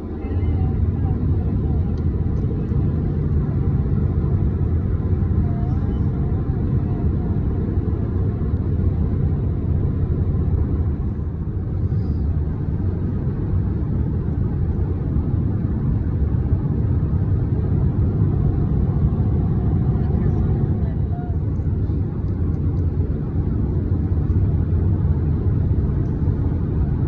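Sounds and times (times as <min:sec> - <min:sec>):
road and engine rumble in car: 0:00.0 - 0:27.0.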